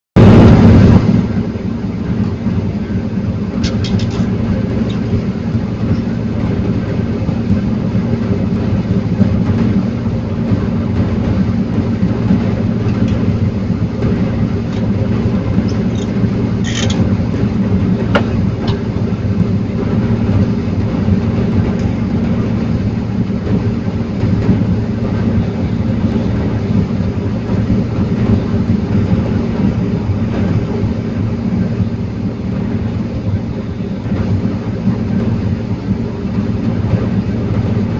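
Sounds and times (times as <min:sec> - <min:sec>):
diesel engine running: 0:00.2 - 0:37.9.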